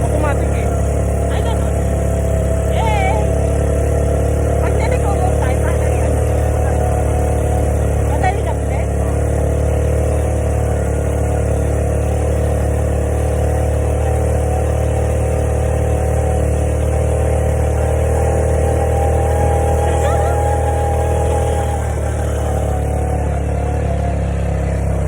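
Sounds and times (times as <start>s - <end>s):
small motorbike engine running: 0.0s - 25.0s.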